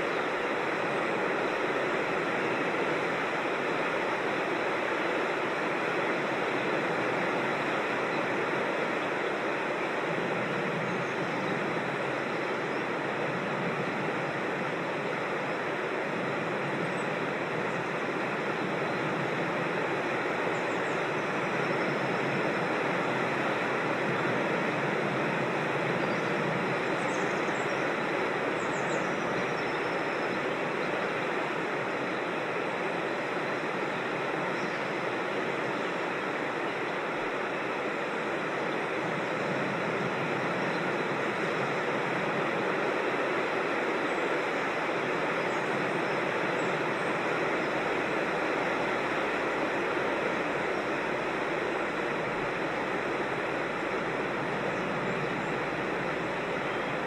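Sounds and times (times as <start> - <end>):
creek water rushing over rocks: 0.0 - 57.0.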